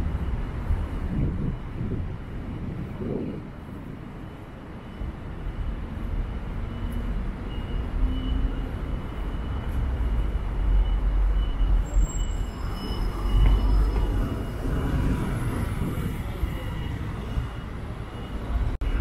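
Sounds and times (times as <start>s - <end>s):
passing vehicles rumbling: 0.0s - 19.0s.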